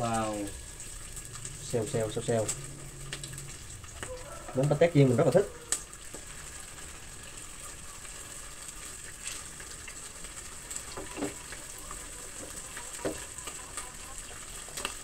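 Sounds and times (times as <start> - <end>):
rice cake sizzling in oil: 0.0 - 15.0.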